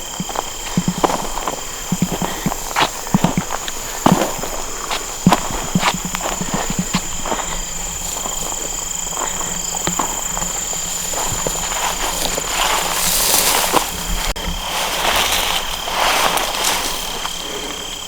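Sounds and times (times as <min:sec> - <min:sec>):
footsteps and scuffs outdoors: 0:00.0 - 0:18.0
high-pitched insect drone: 0:00.0 - 0:18.0
rustling: 0:00.3 - 0:18.0.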